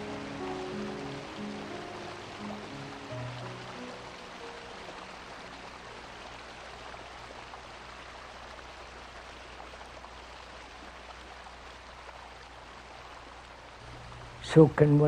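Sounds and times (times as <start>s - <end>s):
stream water running over rocks: 0.0s - 15.0s.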